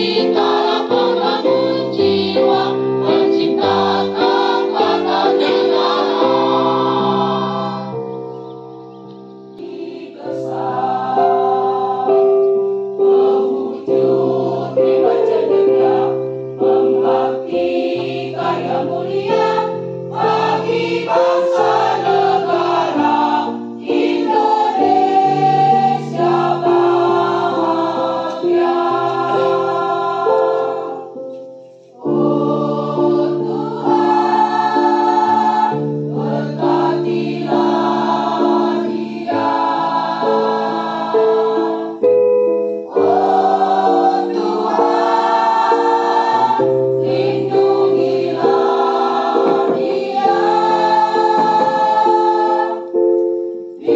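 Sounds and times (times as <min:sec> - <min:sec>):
choir singing in parts: 0:00.0 - 0:53.9.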